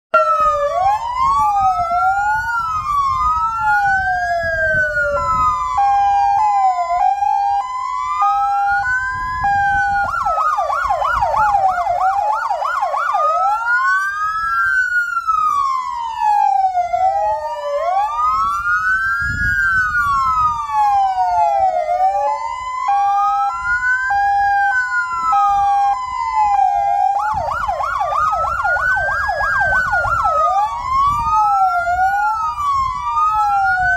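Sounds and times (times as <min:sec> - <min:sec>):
fire engine sirens wailing: 0:00.1 - 0:33.9.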